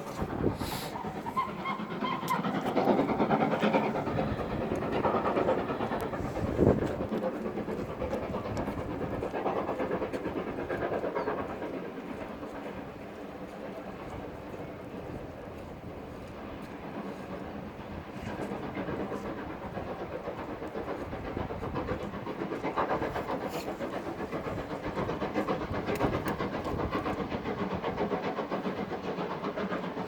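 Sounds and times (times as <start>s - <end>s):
steam locomotive exhaust chuffing: 0.0s - 30.0s
train carriages rumbling and clattering: 0.0s - 30.0s.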